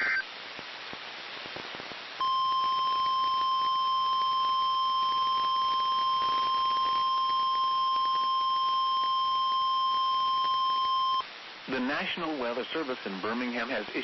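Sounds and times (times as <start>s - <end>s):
faint static: 0.0s - 14.0s.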